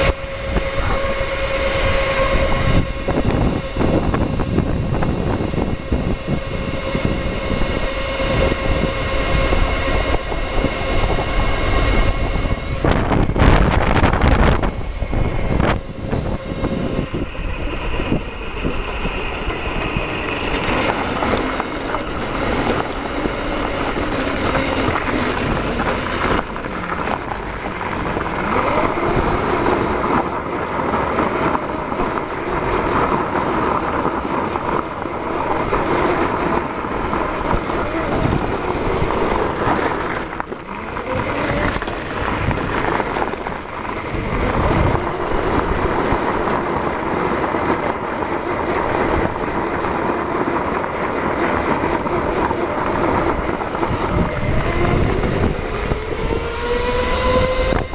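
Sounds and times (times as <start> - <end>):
electric motor whine: 0.0 - 57.9
wind and tyre noise: 0.0 - 57.9.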